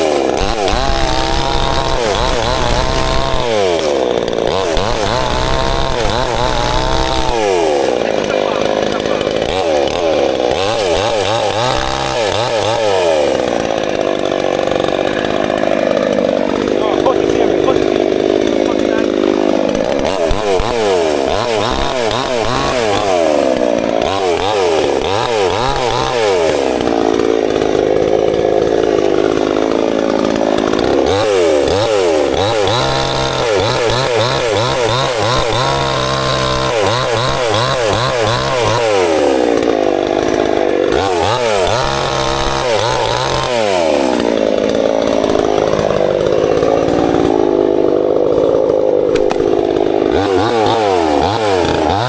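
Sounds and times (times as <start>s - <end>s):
chainsaw cutting branches: 0.0s - 52.0s.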